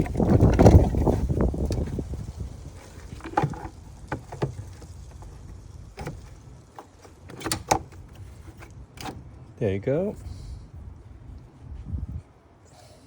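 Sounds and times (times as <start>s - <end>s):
low rustling rumble: 0.0s - 12.6s.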